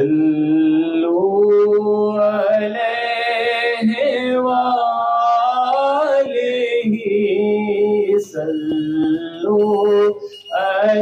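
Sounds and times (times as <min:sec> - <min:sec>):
solo voice devotional chanting: 0:00.0 - 0:11.0.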